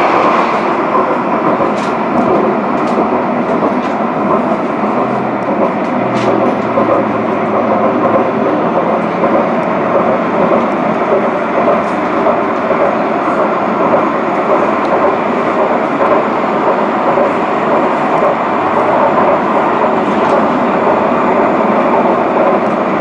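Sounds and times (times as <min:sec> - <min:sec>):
tram wheels rolling on rail: 0:00.0 - 0:23.0.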